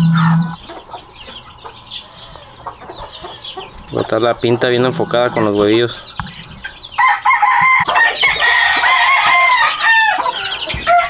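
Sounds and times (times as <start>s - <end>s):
chickens clucking: 0.0s - 11.0s
roosters crowing: 0.0s - 11.0s.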